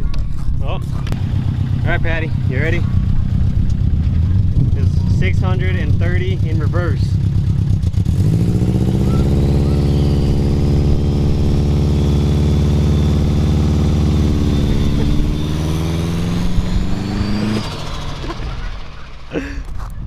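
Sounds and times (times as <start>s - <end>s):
car engine at high revs: 0.8s - 20.0s.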